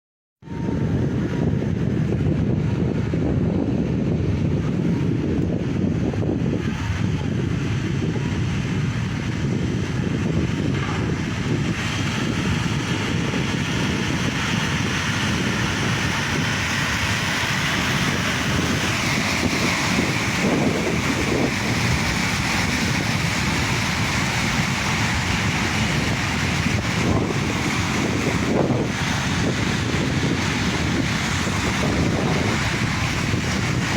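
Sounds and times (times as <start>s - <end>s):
floodwater rushing: 5.6s - 33.9s.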